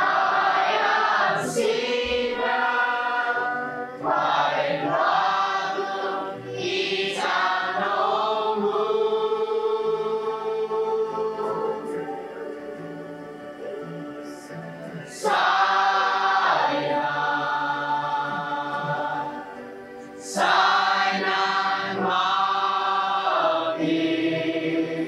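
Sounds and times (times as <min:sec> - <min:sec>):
group of voices chanting: 0:00.0 - 0:12.4, 0:15.0 - 0:19.6, 0:20.2 - 0:25.0.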